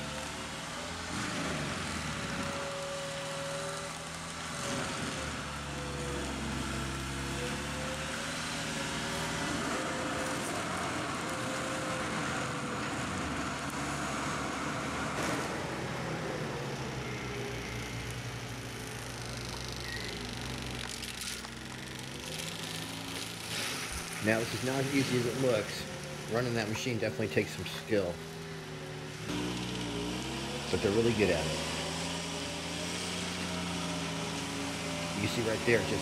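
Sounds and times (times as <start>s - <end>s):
diesel engine running hard: 0.0s - 36.0s
mulcher grinding brush: 0.0s - 36.0s.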